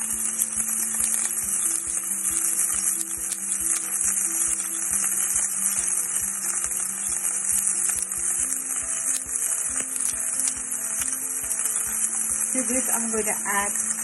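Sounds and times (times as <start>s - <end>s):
soft background music with beat: 0.0s - 14.0s
vegetables sizzling in hot oil: 0.0s - 14.0s.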